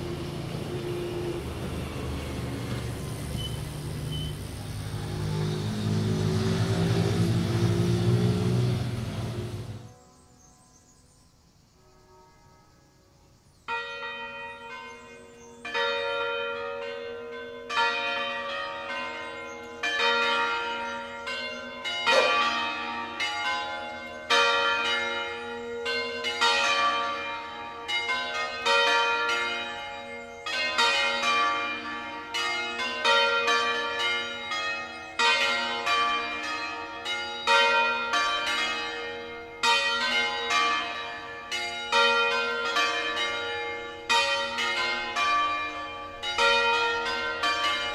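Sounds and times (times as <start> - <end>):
church bells pealing: 0.0 - 10.4, 13.7 - 47.9.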